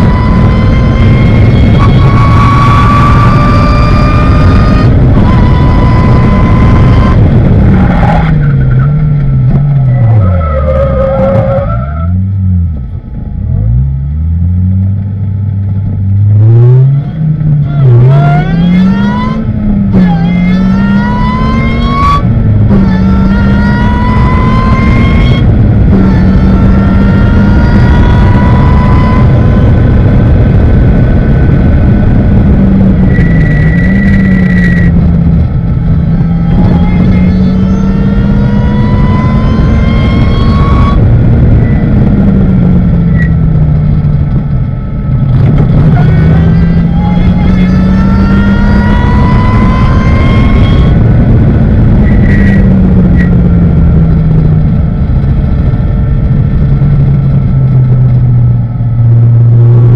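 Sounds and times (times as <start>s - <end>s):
race car engine revving through gears: 0.0s - 12.9s, 13.6s - 59.9s
wind and road noise: 0.0s - 59.9s.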